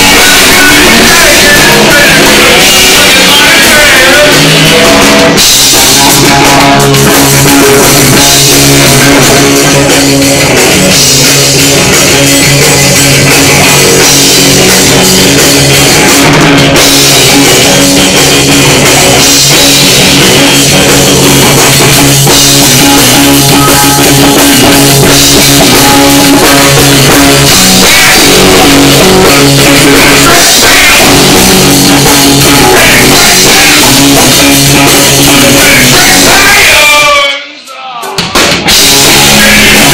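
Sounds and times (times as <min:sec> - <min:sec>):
live rock band playing: 0:00.0 - 0:37.2, 0:38.0 - 0:39.9.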